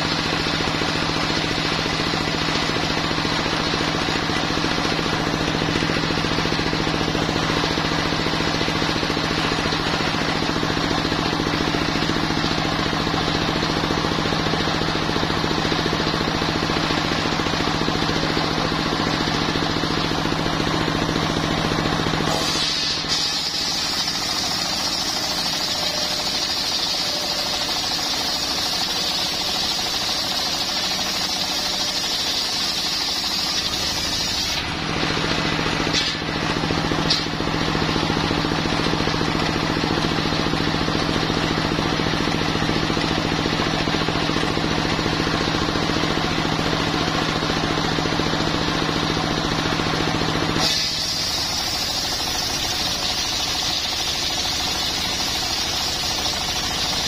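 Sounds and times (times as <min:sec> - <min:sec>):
circular sawmill cutting log: 0:00.0 - 0:57.0.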